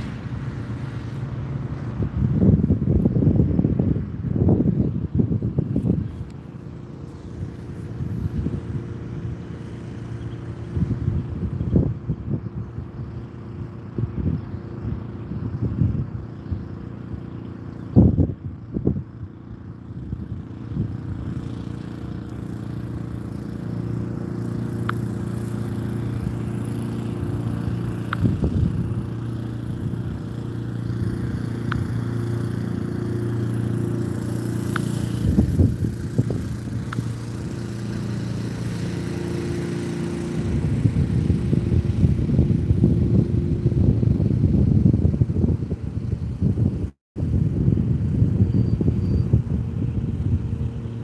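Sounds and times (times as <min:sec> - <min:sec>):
low engine drone: 0:00.0 - 0:51.0.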